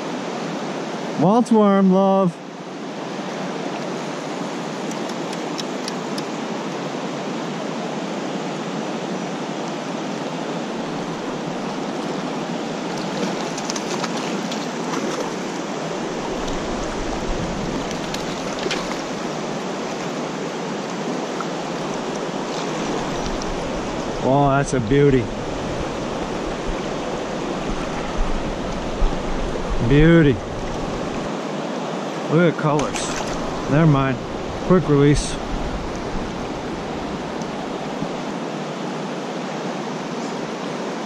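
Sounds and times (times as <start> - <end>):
fast-flowing creek water: 0.0 - 41.0.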